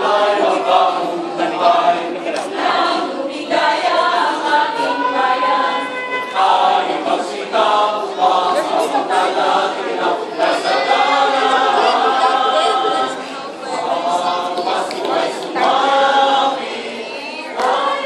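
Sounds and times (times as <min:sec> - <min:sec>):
mixed choir singing: 0:00.0 - 0:18.0.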